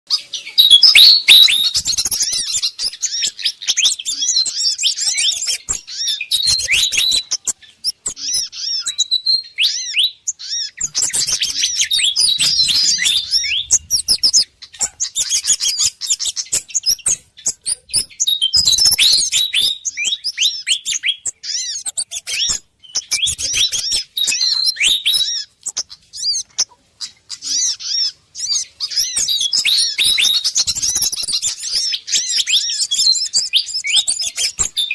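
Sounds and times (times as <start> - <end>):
fantails chirping and scolding: 0.1 - 34.9
small songbirds calling: 0.1 - 34.9.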